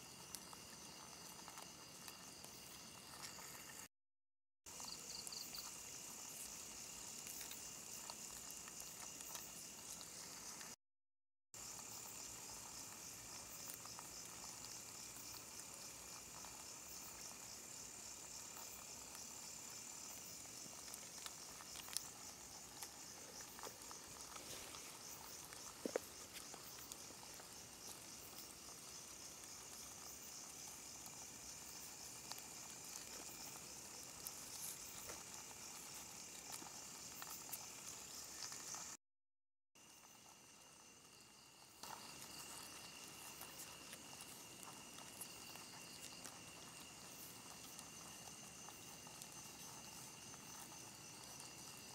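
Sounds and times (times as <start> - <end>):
high-pitched insect trill: 0.0 - 3.9, 4.7 - 10.8, 11.6 - 39.0, 39.8 - 51.9
lower insect trilling: 4.7 - 10.8, 11.6 - 39.0, 39.8 - 51.9.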